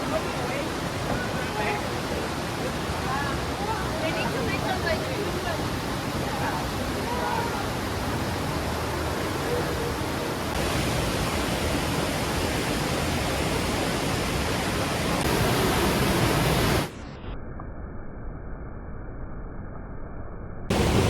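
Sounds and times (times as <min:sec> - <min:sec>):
waterfall and river rushing: 0:00.0 - 0:17.0, 0:20.7 - 0:21.0.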